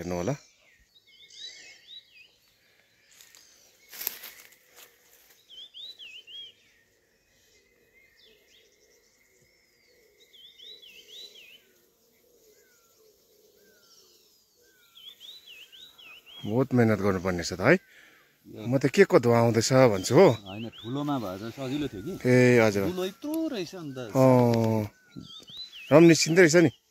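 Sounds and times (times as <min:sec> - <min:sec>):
small bird chirping: 0:00.0 - 0:26.9.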